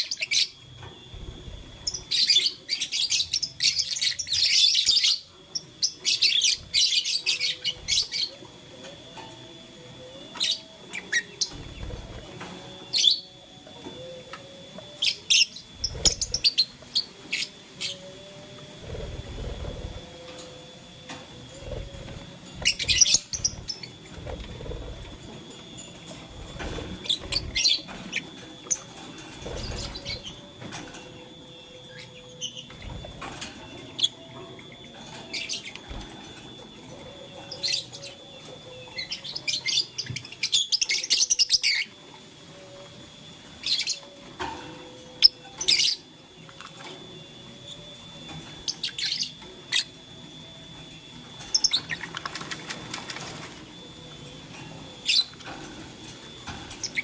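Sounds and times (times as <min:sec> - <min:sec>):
birds moving about rustling: 0:00.2 - 0:04.9, 0:05.8 - 0:40.9, 0:43.2 - 0:57.0.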